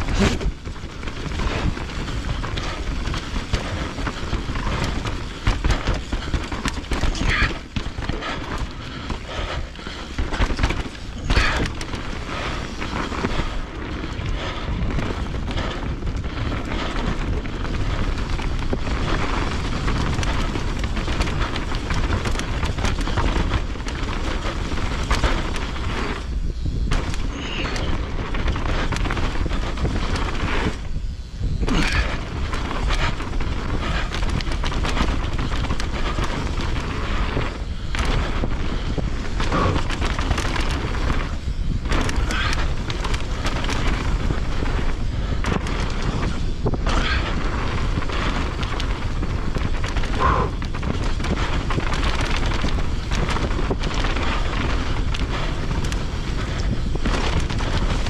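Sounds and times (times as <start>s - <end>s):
bike rattling and knocking: 0.0s - 58.0s
wind buffeting the microphone: 0.0s - 58.0s.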